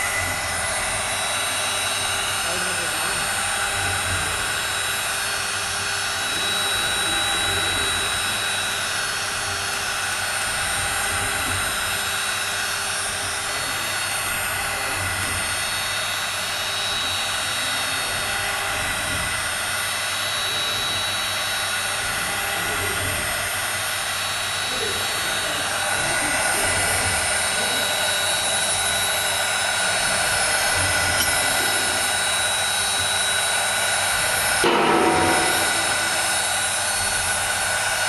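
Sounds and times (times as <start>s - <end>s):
router spindle whining: 0.0s - 38.0s.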